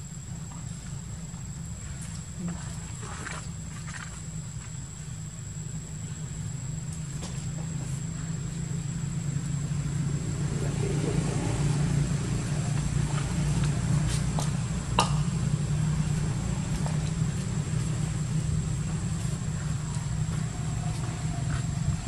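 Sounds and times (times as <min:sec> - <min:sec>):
engine idling rumble: 0:00.0 - 0:22.0.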